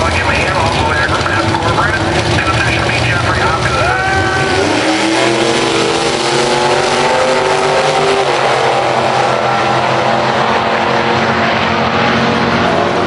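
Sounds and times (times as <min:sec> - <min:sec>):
drag car engines at full throttle: 0:00.0 - 0:13.0.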